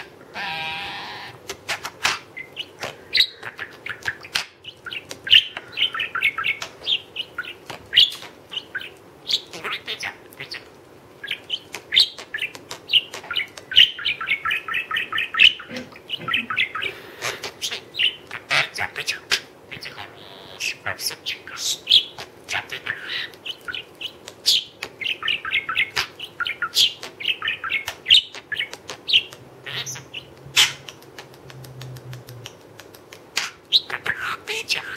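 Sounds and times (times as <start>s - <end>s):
parrot clicking and chirping: 1.4s - 20.2s, 20.8s - 34.9s.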